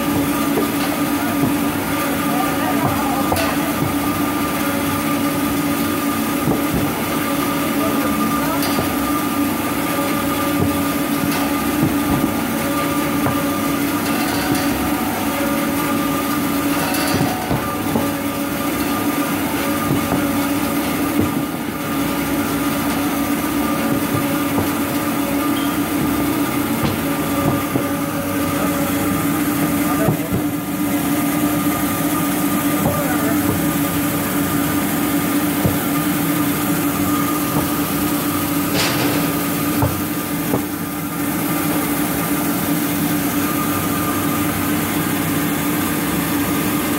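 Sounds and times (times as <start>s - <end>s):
machine hum with mechanical clicks: 0.0s - 46.9s.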